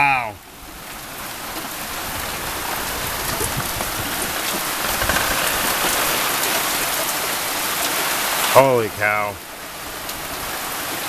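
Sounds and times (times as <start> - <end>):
rain pattering on the ground: 0.4 - 11.0.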